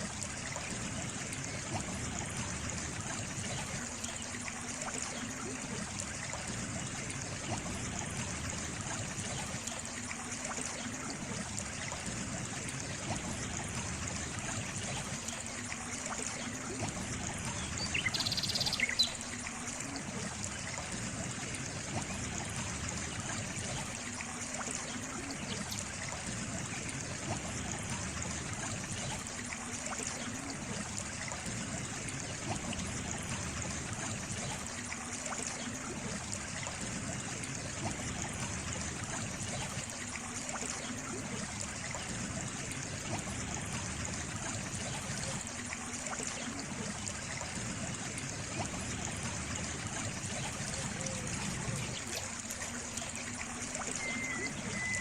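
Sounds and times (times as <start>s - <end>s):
trickle of running water: 0.0s - 55.0s.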